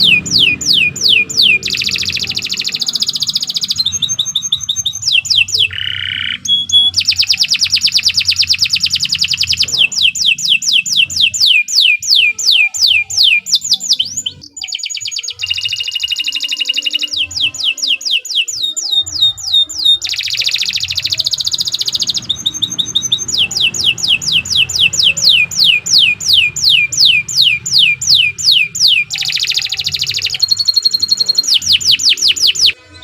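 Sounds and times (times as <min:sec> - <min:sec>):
canary singing: 0:00.0 - 0:33.0.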